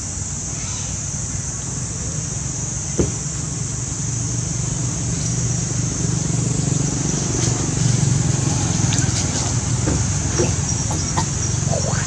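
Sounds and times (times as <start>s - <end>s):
high-pitched insect drone: 0.0s - 12.0s
vehicle engine rumbling: 0.0s - 12.0s.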